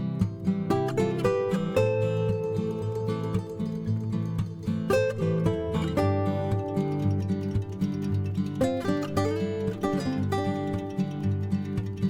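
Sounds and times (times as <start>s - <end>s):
acoustic guitar melody: 0.0s - 12.0s.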